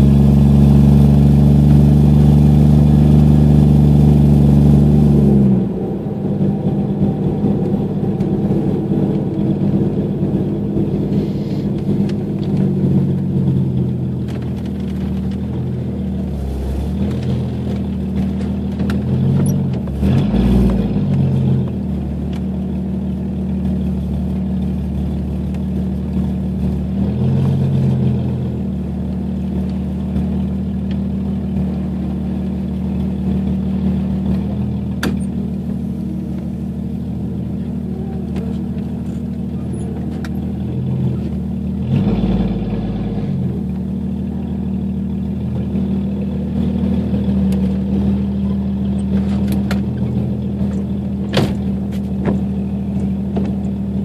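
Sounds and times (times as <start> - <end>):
car exhaust drone from inside: 0.0 - 54.0.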